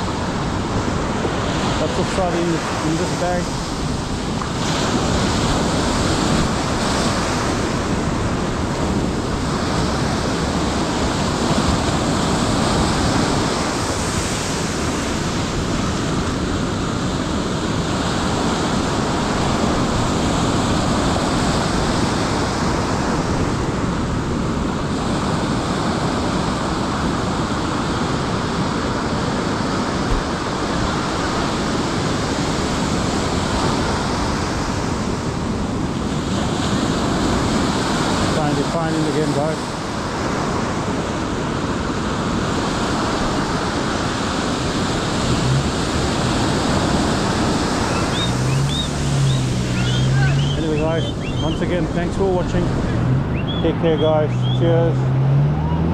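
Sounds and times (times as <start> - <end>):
ocean waves breaking: 0.0 - 55.9
wind on microphone: 0.0 - 55.9.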